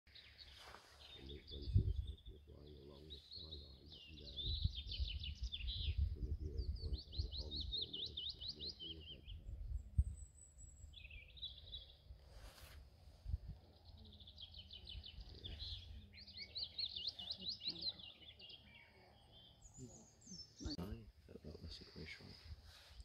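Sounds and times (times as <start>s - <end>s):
warbler singing: 0.1s - 23.0s.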